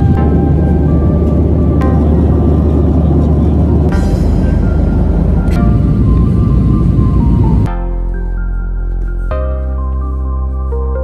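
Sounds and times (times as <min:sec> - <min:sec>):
airliner cabin noise: 0:00.0 - 0:10.8
background music: 0:00.0 - 0:11.0.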